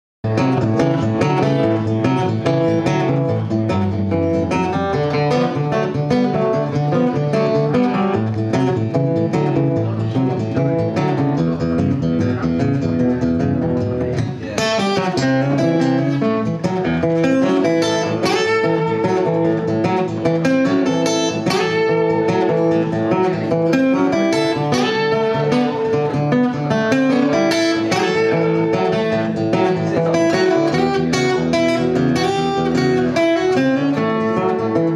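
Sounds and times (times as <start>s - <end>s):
acoustic guitars strumming: 0.2s - 34.9s.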